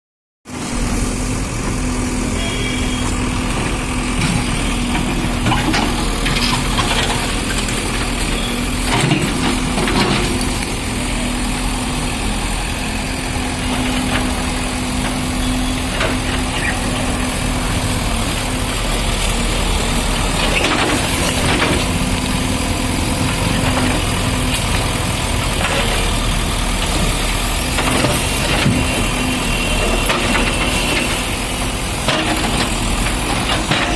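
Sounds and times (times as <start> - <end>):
diesel engine running: 0.5 - 33.9.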